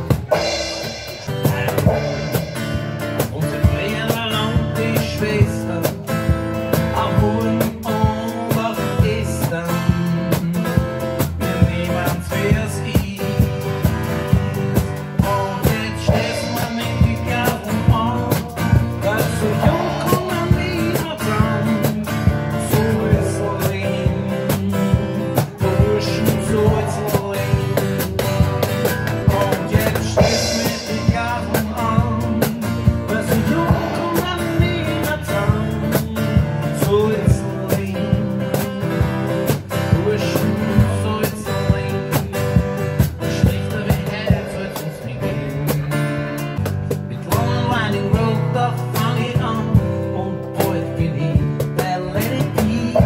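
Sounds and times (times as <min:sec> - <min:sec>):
percussion beat: 0:00.0 - 0:49.9, 0:50.5 - 0:53.0
man singing: 0:00.0 - 0:53.0
strummed acoustic guitar: 0:00.0 - 0:53.0.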